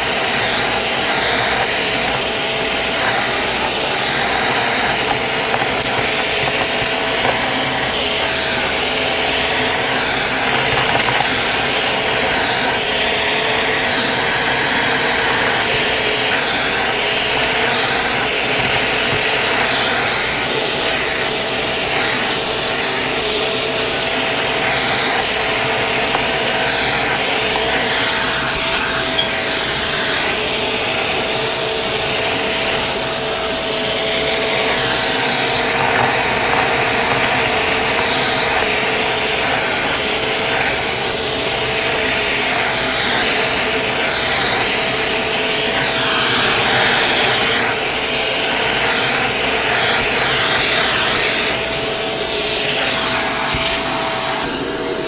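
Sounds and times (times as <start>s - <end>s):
debris rattling up vacuum nozzle: 0.0s - 54.4s
vacuum cleaner motor whine: 0.0s - 55.0s.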